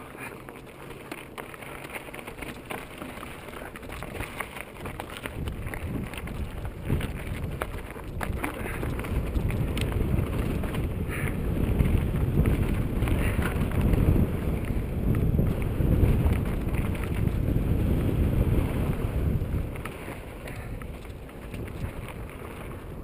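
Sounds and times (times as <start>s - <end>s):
bike rattling over bumps: 0.0s - 23.0s
tyres crunching on loose stones: 0.0s - 23.0s
wind buffeting microphone: 2.4s - 23.0s.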